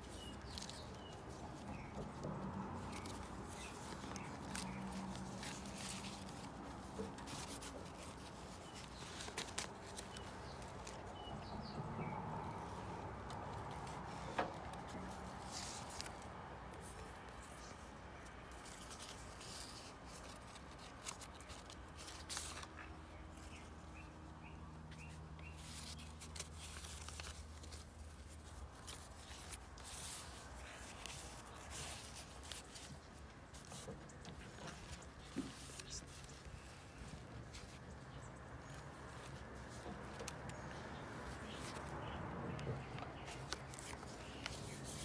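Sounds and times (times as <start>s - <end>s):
paper pages rustling: 0.0s - 45.0s.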